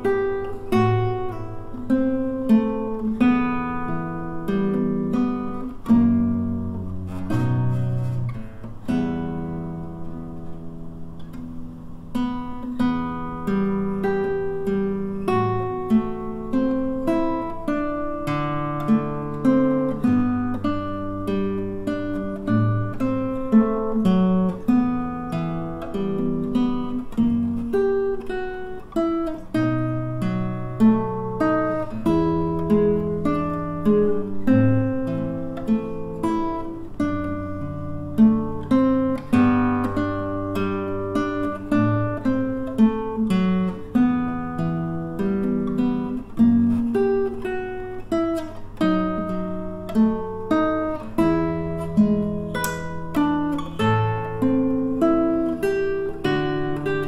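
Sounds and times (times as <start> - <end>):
classical guitar fingerstyle: 0.0 - 57.0.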